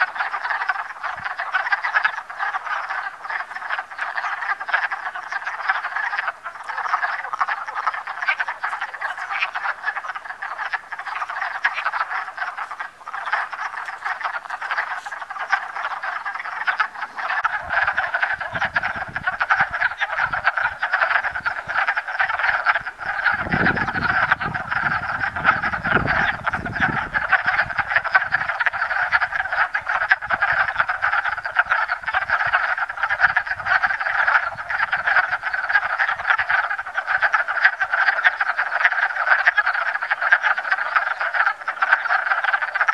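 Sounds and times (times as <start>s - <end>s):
frogs chorus clucking: 0.0s - 42.9s.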